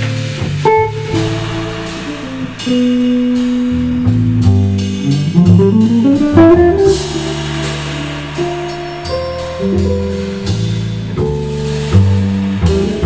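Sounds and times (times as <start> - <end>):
guitar melody: 0.0 - 13.0
low bass notes: 0.0 - 13.0.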